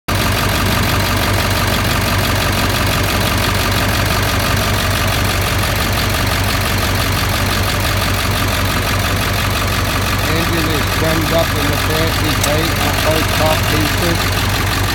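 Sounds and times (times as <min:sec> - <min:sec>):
diesel truck engine idling: 0:00.1 - 0:14.9.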